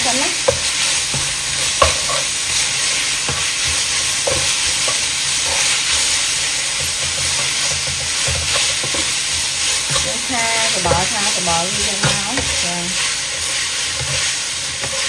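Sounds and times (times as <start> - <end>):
meat sizzling in a wok: 0.0 - 15.0
spatula scraping a pan: 0.5 - 15.0.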